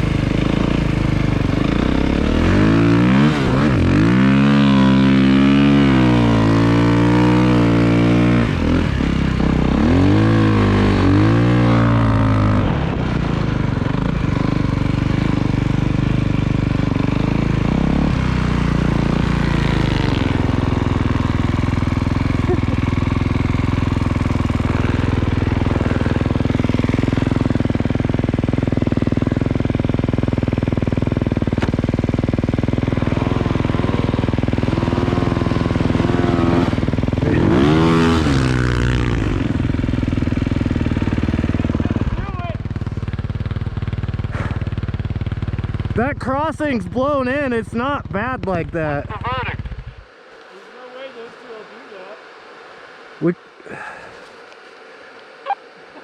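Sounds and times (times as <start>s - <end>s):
snowbike engine revving: 0.0s - 56.0s.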